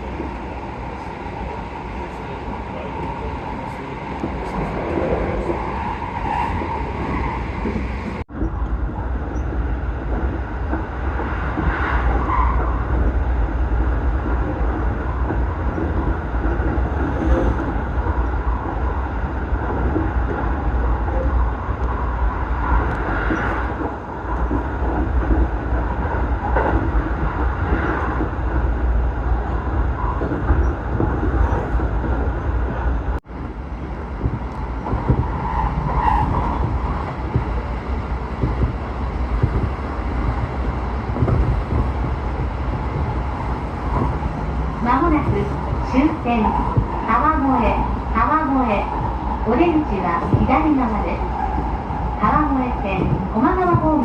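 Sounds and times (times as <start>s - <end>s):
train rumble and wheel noise: 0.0s - 54.0s.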